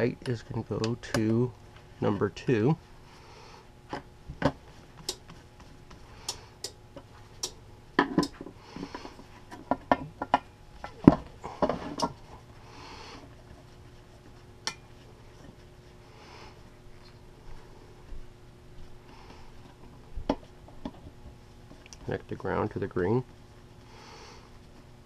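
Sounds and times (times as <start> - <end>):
work gloves rustling: 0.0 - 25.0.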